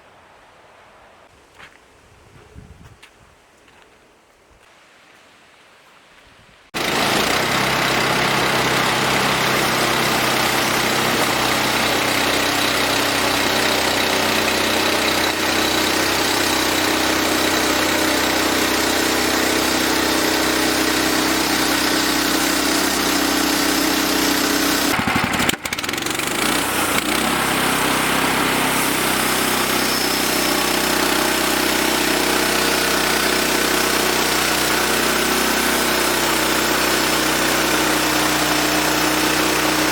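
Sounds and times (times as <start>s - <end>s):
sawmill engine running: 6.8s - 39.9s.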